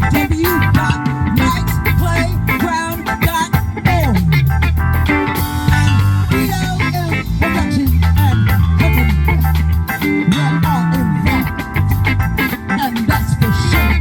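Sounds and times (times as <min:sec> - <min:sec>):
bass guitar: 0:00.0 - 0:14.0
drum beat: 0:00.0 - 0:14.0
slide guitar lines: 0:00.0 - 0:14.0.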